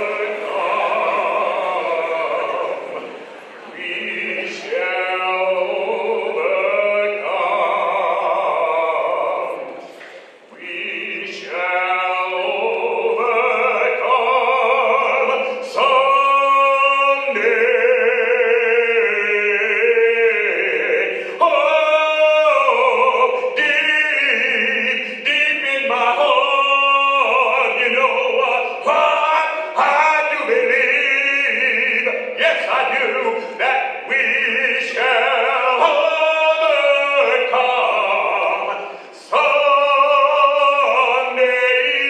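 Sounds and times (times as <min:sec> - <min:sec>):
man singing with vibrato: 0:00.0 - 0:42.0.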